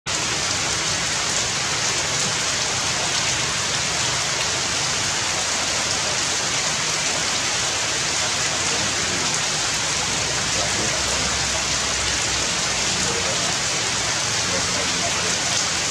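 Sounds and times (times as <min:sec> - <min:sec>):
rain on foliage: 0:00.1 - 0:15.9.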